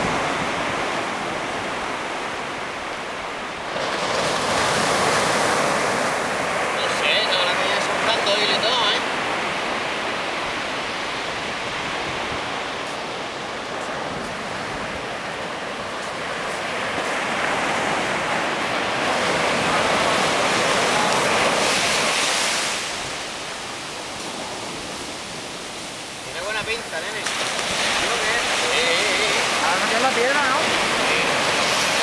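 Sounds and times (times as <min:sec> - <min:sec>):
surf breaking on beach: 0:00.0 - 0:32.0.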